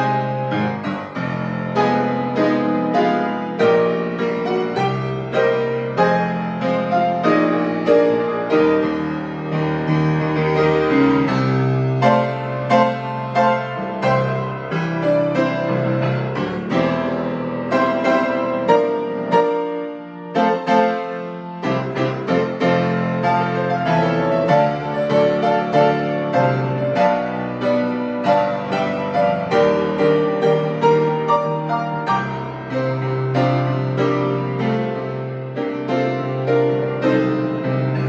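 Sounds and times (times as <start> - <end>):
piano playing hymn chords: 0.0 - 38.0.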